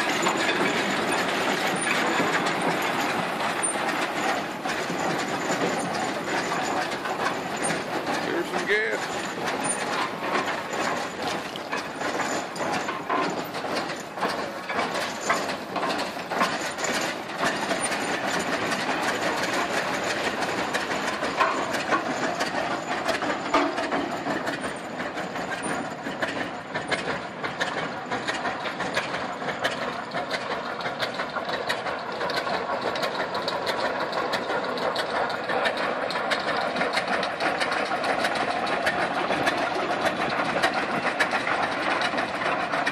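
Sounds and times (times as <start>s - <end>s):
tractor engine clattering: 0.0s - 42.9s.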